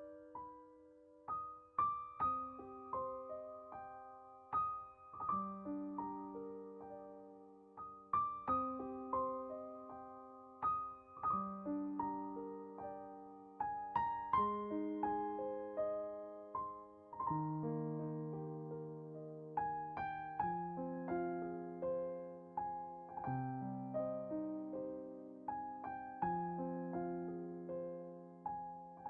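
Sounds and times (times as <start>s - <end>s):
soft slow piano music: 0.0s - 29.0s.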